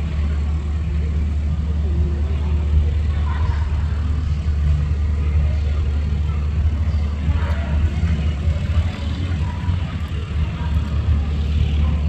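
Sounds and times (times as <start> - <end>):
faint voices: 0.0 - 12.0
steady low rumble: 0.0 - 12.0.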